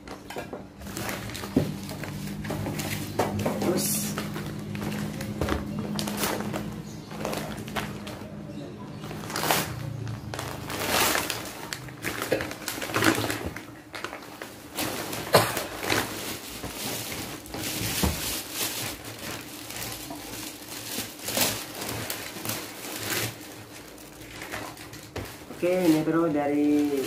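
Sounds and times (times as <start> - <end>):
wrapping paper rustling: 0.0 - 27.0.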